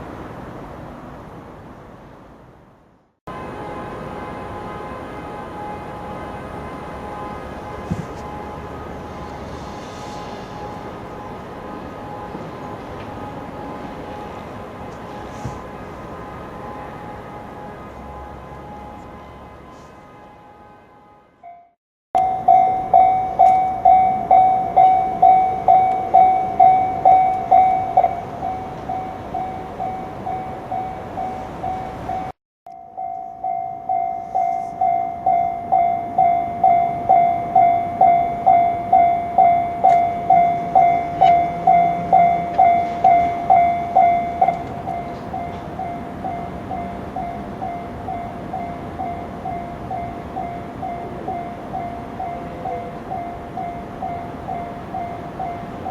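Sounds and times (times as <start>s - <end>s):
level-crossing warning bell ringing: 3.3s - 9.5s, 10.2s - 55.9s.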